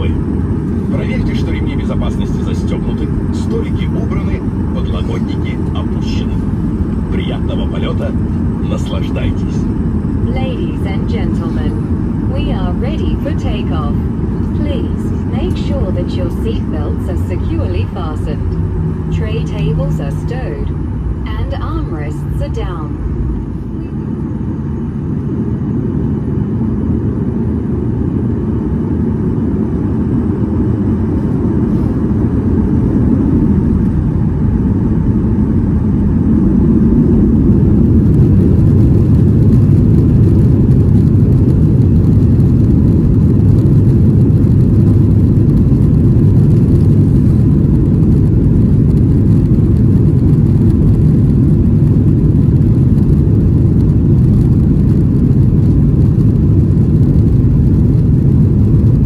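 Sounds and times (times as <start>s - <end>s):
jet engine rumble in cabin: 0.0s - 59.0s.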